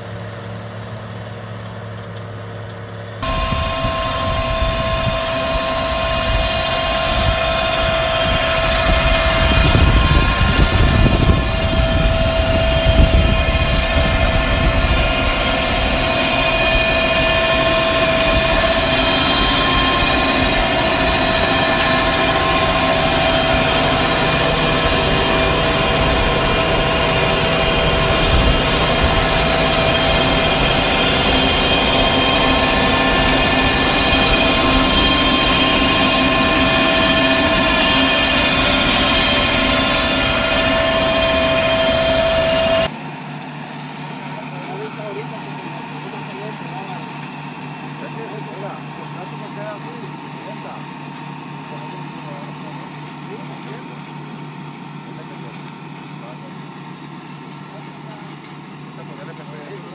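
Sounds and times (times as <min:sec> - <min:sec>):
machine whining tones: 0:00.0 - 0:59.9
tractor engine rumbling under load: 0:00.0 - 0:59.9.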